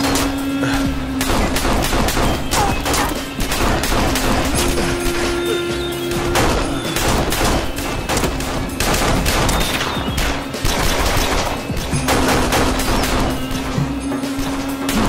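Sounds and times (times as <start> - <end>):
rapid handgun gunfire: 0.0 - 5.4, 6.3 - 15.0
background music: 0.0 - 15.0.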